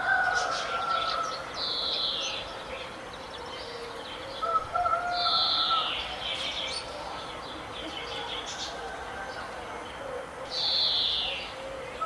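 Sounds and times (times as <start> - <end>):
birds calling and singing: 0.0 - 12.0.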